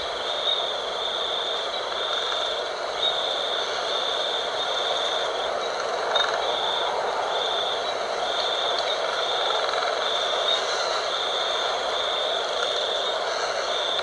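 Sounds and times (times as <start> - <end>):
insects trilling: 0.0 - 14.0
night wind: 0.0 - 14.0.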